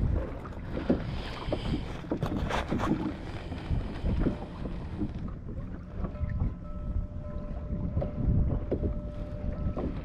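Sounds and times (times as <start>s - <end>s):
water lapping against a kayak: 0.0s - 10.0s
wind buffeting microphone: 0.0s - 10.0s.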